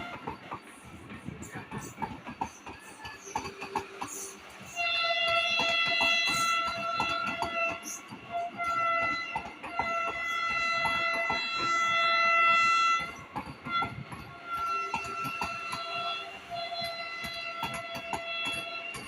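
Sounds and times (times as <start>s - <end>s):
train wheels clicking over rail joints: 0.0s - 19.0s.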